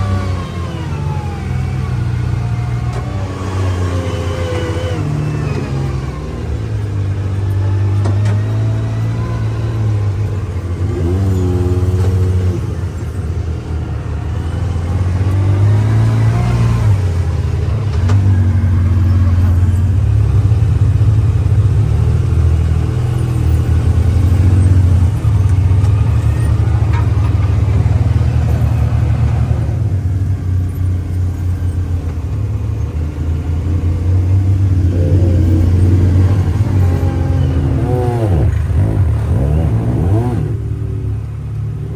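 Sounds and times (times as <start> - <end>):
utility vehicle engine revving: 0.0 - 41.9.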